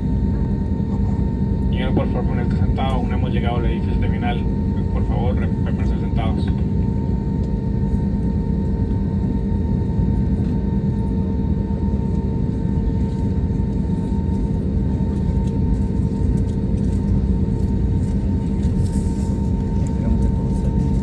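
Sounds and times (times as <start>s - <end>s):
airliner cabin engine drone: 0.0s - 21.0s.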